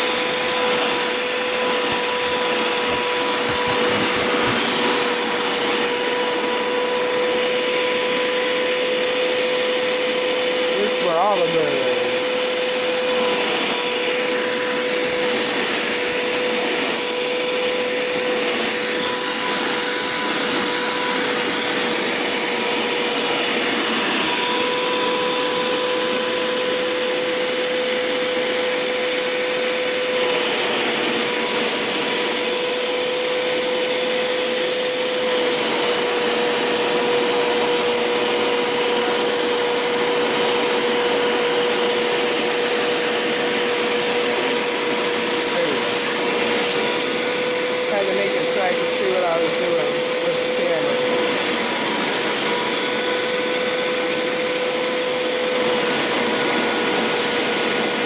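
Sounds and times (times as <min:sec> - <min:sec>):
carpet cleaner motor whine: 0:00.0 - 0:58.0.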